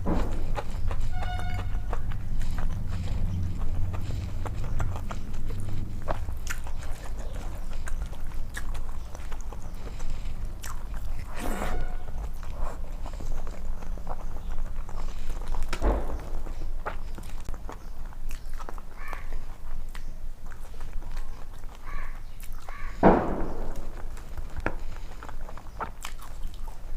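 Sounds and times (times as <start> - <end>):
chewing food: 0.0 - 26.9
steady low hum: 0.0 - 26.9.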